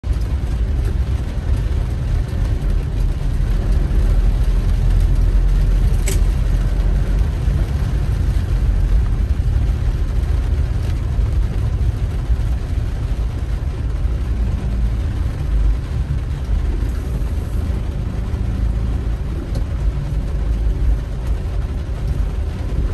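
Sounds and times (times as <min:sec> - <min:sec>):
car engine and road noise: 0:00.0 - 0:22.9.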